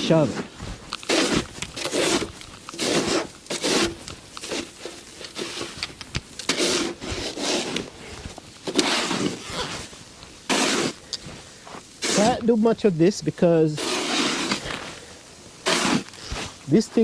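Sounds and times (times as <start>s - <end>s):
snow shovel scraping snow: 0.0s - 5.8s, 6.4s - 17.0s.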